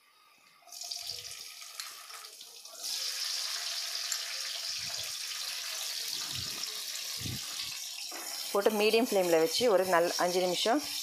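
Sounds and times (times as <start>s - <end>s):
vegetable slices sizzling in oil: 0.7s - 11.0s.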